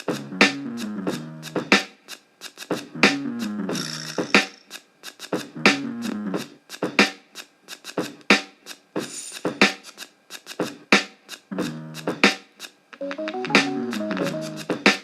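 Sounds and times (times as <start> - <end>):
background music with percussive beat: 0.0 - 15.0.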